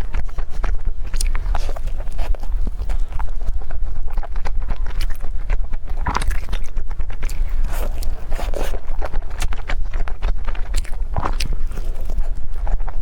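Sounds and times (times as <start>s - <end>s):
person chewing food: 0.0s - 13.0s
steady low hum: 0.0s - 13.0s
wet mouth clicks and smacks: 0.0s - 13.0s.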